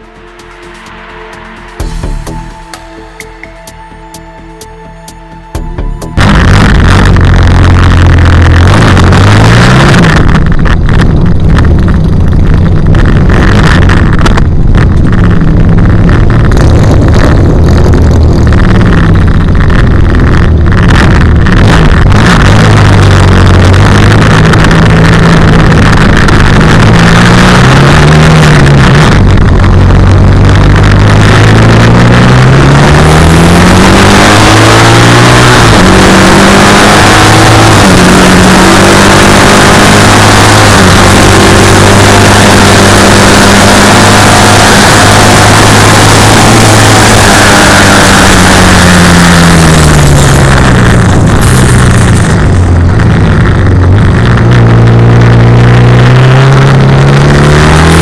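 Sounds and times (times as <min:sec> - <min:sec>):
loud engine revving: 0:05.6 - 0:58.0
wind noise: 0:05.6 - 0:58.0.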